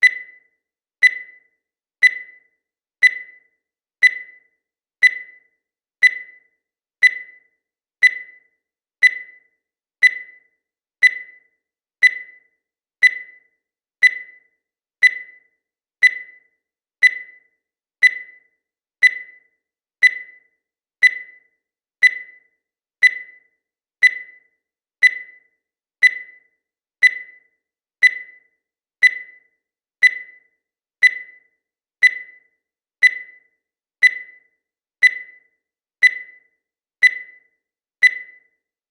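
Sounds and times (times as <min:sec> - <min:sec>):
timer beeping: 0:00.0 - 0:38.8.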